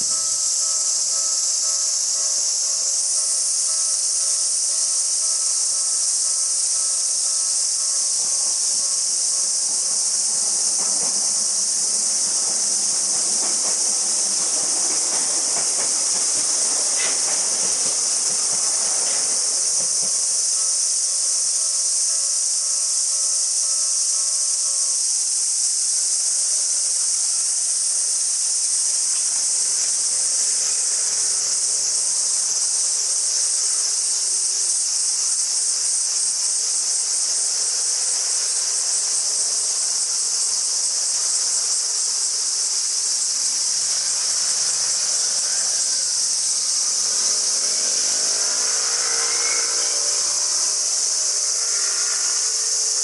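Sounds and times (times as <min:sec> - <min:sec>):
cicadas droning: 0:00.0 - 0:53.0.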